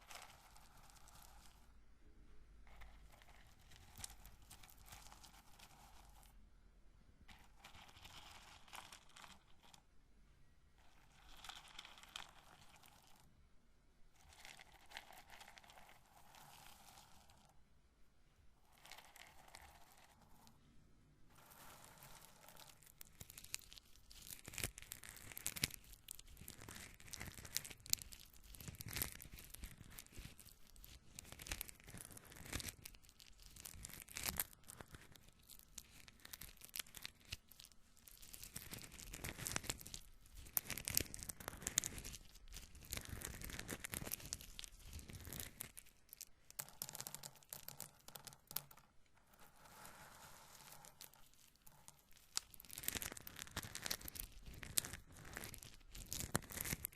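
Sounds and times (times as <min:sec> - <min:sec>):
corn kernels crackling and rustling: 0:00.0 - 0:01.7, 0:02.7 - 0:06.4, 0:07.3 - 0:09.9, 0:10.8 - 0:13.3, 0:14.2 - 0:17.6, 0:18.6 - 0:20.6, 0:21.3 - 0:56.9.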